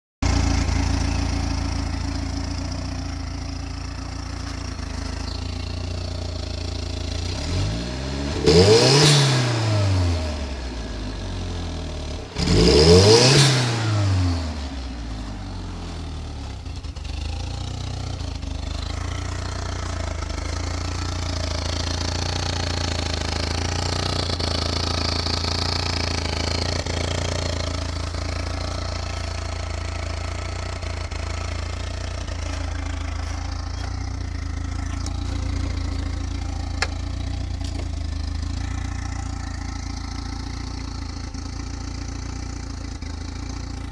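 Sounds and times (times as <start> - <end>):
car engine idling with rattle: 0.2 - 7.7, 14.6 - 43.9.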